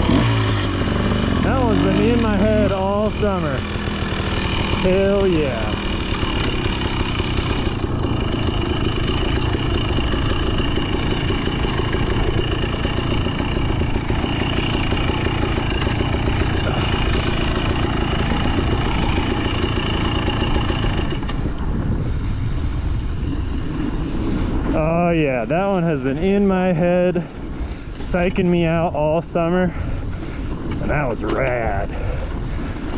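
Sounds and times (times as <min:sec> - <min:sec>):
dirt bike engine idling: 0:00.0 - 0:32.9.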